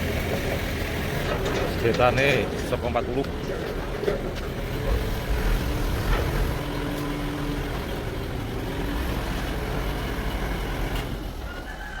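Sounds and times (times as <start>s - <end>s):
sawmill machinery rumbling: 0.0s - 11.7s.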